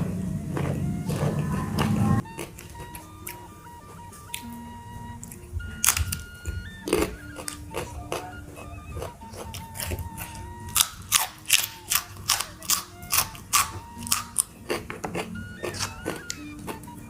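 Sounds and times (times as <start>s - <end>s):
crunching of raw vegetables chewed: 0.0s - 17.0s.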